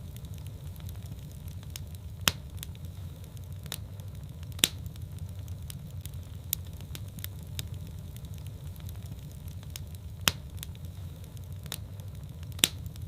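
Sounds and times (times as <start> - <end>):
fire crackling and popping: 0.0 - 13.0
fire rumbling: 0.0 - 13.0.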